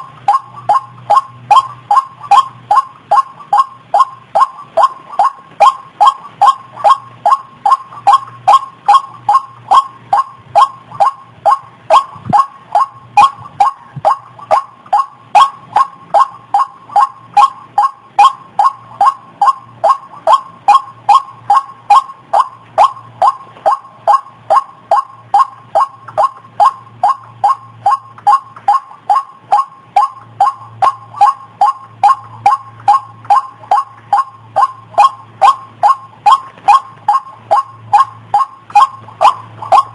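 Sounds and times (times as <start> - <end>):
bird croaking call: 0.0 - 39.9.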